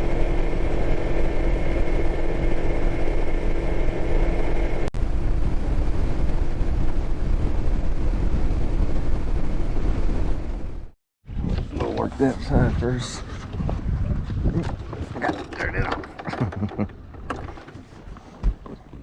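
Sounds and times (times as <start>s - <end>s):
boat motor running: 0.0s - 11.0s, 14.5s - 19.0s.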